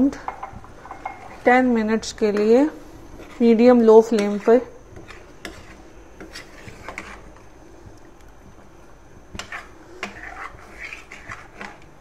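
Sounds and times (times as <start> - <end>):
spoon stirring in metal pot: 0.0 - 12.0.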